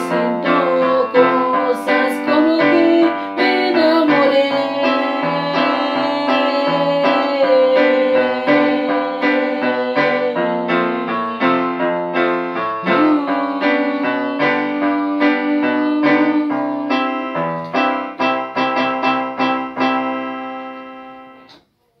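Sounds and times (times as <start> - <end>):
electronic keyboard melody: 0.0 - 21.6.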